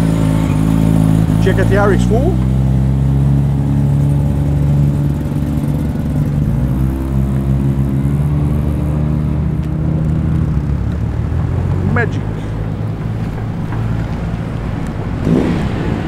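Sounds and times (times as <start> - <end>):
car engine pulling away: 0.0 - 16.0.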